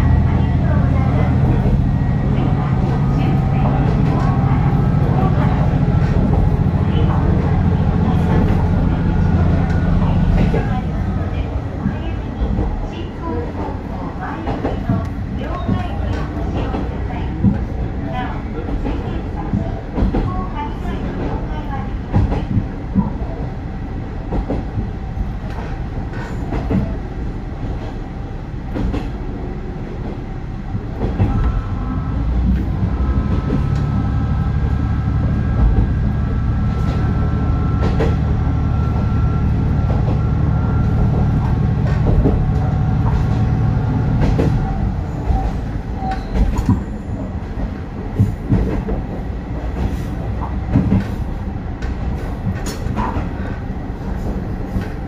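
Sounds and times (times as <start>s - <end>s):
railcar engine drone: 0.0s - 55.0s.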